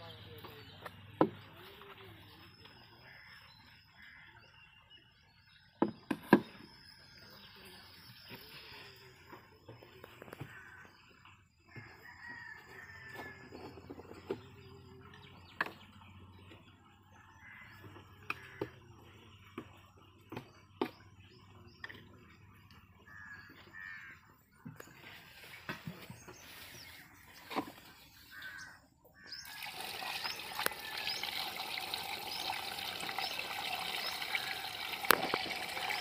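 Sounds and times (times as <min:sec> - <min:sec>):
faint birds calling: 0:00.0 - 0:36.0.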